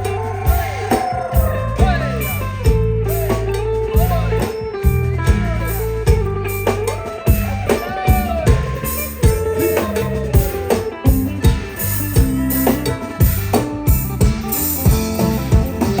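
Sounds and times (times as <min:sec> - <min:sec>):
drums keeping a steady beat: 0:00.0 - 0:16.0
folk band playing: 0:00.0 - 0:16.0
plucked strings: 0:00.0 - 0:16.0.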